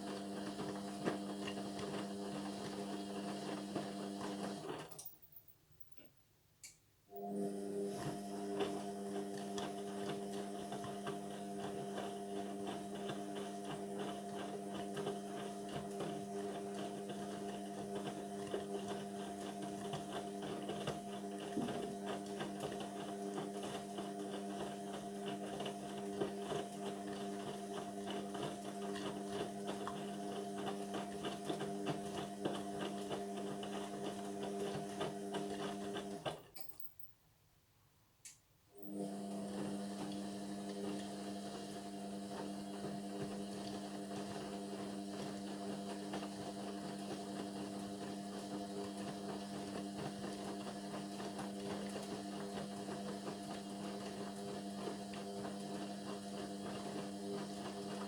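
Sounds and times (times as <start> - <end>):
washing machine hum: 0.0 - 5.1, 7.1 - 36.8, 38.7 - 58.0.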